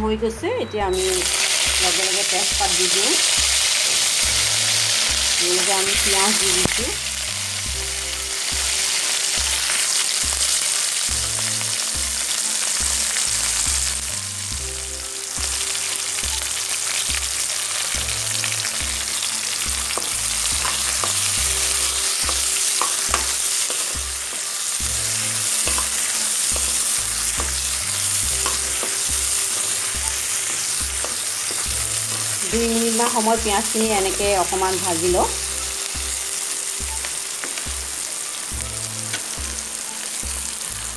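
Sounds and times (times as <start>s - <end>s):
onions sizzling in oil: 0.9s - 40.9s.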